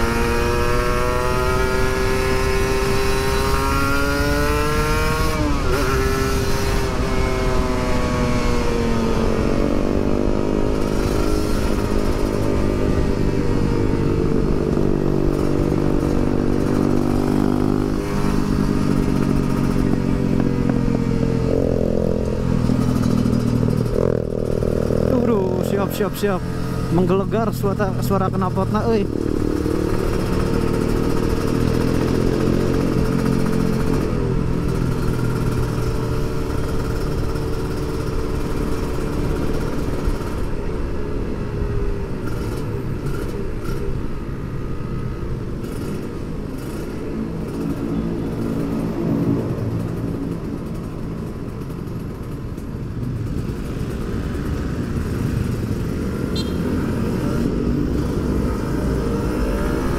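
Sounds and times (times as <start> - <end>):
motorcycle engine revving: 0.0 - 59.9
other motorcycles running: 0.0 - 59.9.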